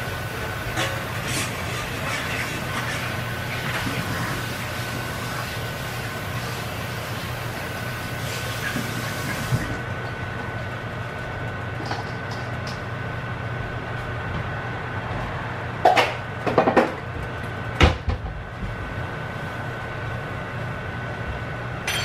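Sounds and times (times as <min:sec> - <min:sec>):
range hood fan humming: 0:00.0 - 0:22.0.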